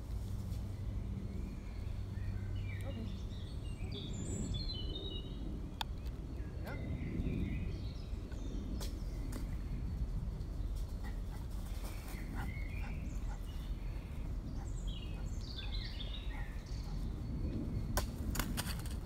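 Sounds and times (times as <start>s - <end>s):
songbirds chirping and whistling: 0.0s - 19.0s
steady low rumble: 0.0s - 19.0s.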